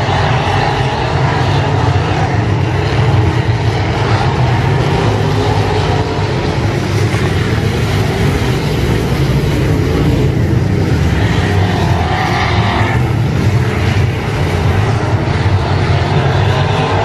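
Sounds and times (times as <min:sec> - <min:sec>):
race car engines roaring: 0:00.0 - 0:17.0.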